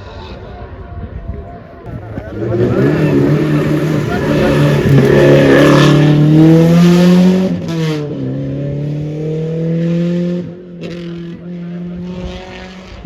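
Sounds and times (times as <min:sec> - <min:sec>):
rally car engine accelerating: 0:01.9 - 0:13.0.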